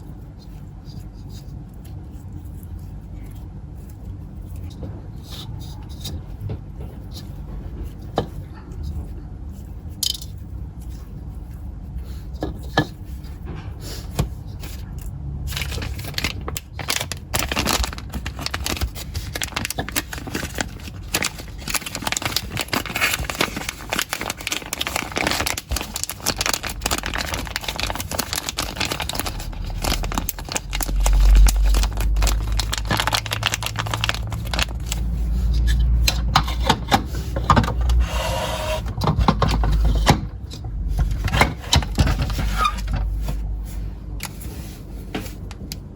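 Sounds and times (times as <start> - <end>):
crinkling handling noise: 0.0 - 38.0, 38.8 - 45.9.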